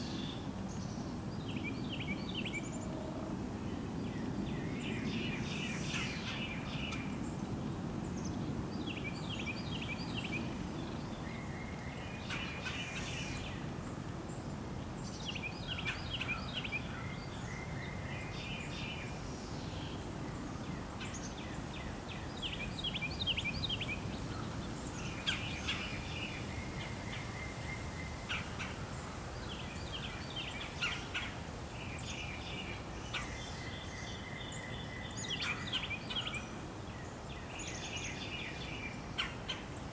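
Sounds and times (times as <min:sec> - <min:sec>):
small songbirds chirping: 0:00.0 - 0:02.9, 0:03.7 - 0:39.9.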